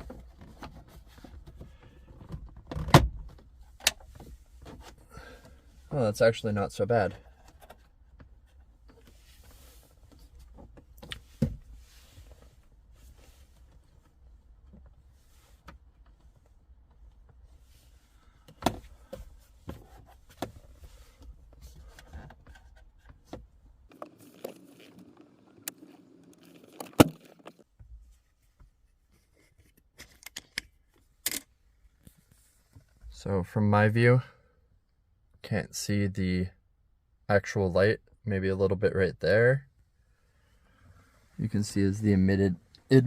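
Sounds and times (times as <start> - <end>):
objects handled inside a car: 0.0 - 33.2, 39.3 - 43.0.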